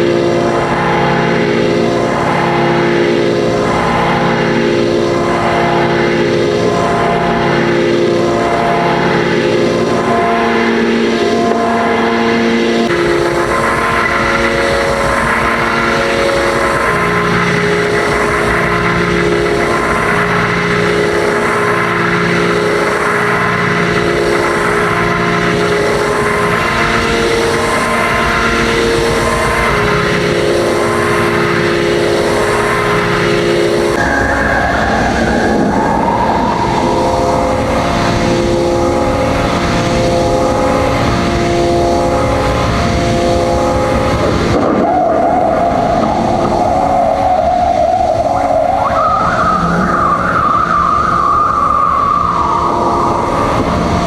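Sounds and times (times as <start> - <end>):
sustained electronic drone tones: 0.0 - 54.0.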